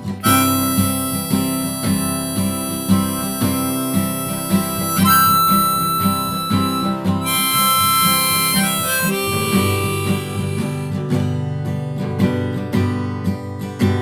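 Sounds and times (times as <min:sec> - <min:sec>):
harmonica long held notes: 0:00.0 - 0:11.4
strummed acoustic guitar: 0:00.0 - 0:14.0.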